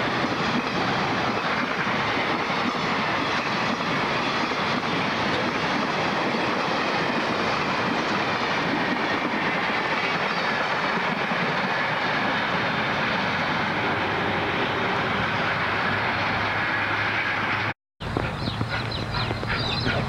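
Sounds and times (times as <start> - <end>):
train rushing noise: 0.0 - 20.0.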